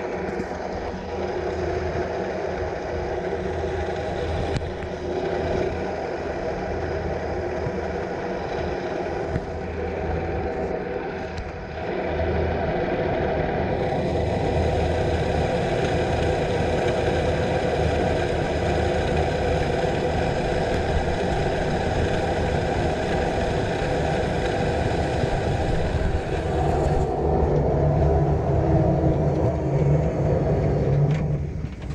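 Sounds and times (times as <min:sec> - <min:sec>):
cable car mechanical hum: 0:00.0 - 0:31.9.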